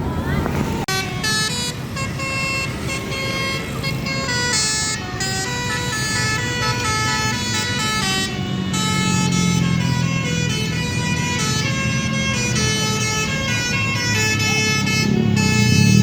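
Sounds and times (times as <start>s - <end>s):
vehicle engine rumble: 0.0s - 16.0s
musical air horn melody: 0.9s - 16.0s.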